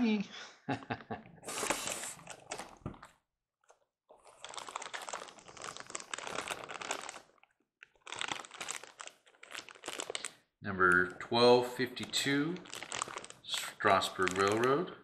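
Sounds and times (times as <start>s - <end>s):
plastic bag crinkling: 1.5s - 14.9s.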